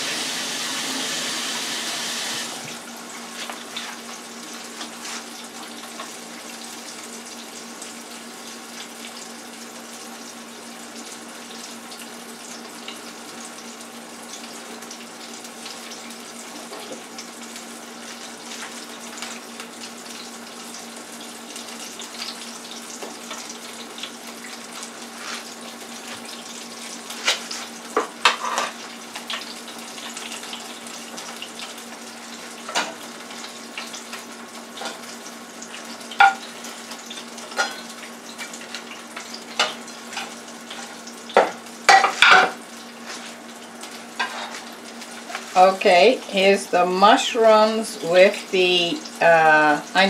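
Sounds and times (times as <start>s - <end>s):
food sizzling in deep fryer: 0.0s - 50.0s
low fryer hum: 0.0s - 50.0s.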